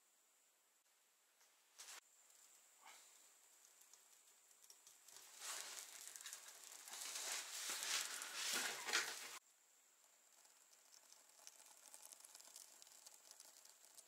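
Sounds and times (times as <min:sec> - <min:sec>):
fire crackling in wood stove: 0:01.8 - 0:14.0.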